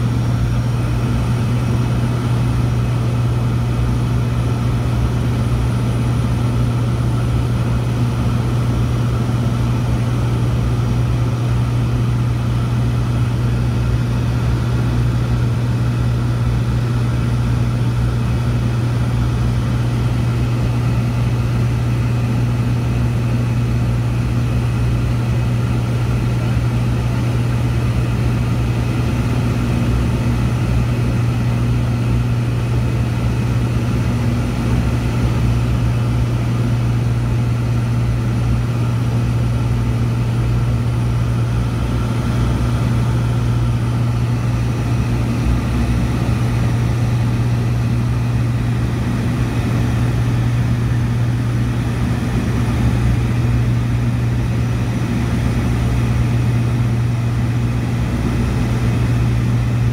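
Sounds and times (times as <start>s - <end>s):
aircraft cabin engine drone: 0.0s - 59.9s.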